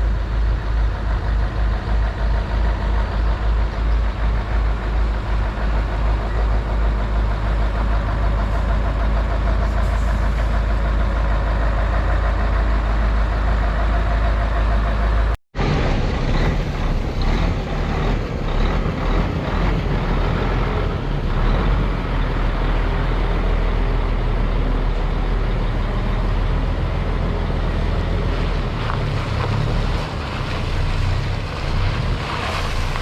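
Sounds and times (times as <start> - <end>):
truck engine rumbling: 0.0 - 33.0.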